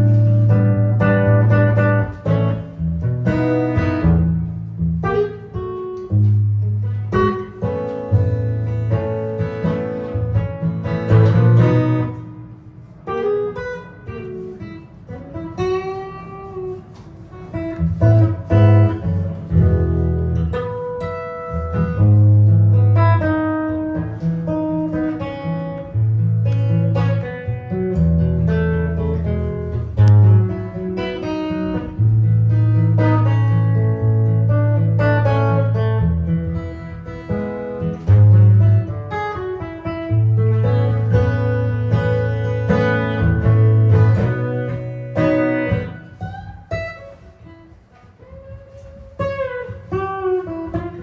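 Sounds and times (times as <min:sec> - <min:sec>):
jazz guitar playing: 0:00.0 - 0:51.0.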